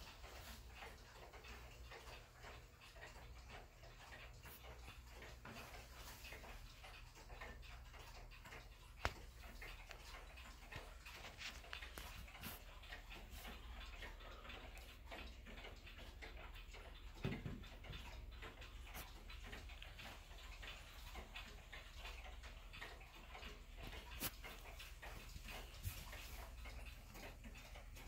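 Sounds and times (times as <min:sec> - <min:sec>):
grandfather clock ticking: 0:00.0 - 0:28.0.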